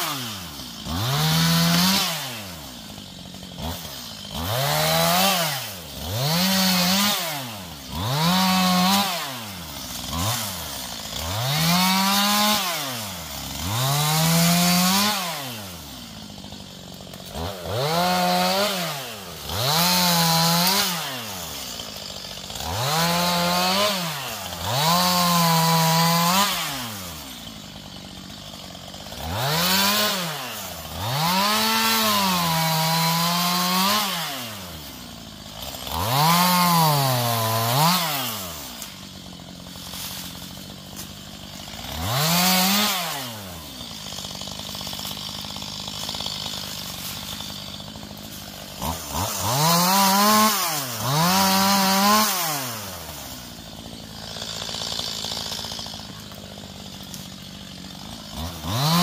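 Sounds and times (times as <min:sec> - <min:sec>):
chainsaw revving and idling: 0:00.0 - 0:59.0.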